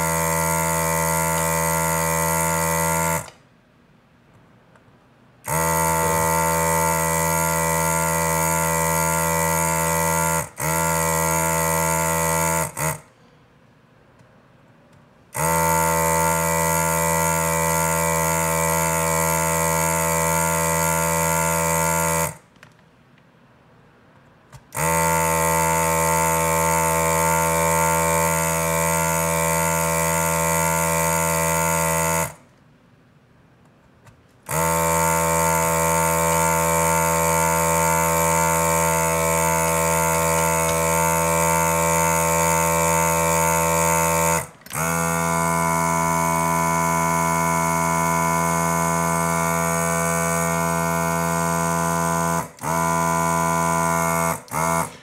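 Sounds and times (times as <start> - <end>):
desoldering vacuum pump humming: 0.0 - 3.4, 5.4 - 13.2, 15.3 - 22.7, 24.5 - 32.6, 34.0 - 55.0.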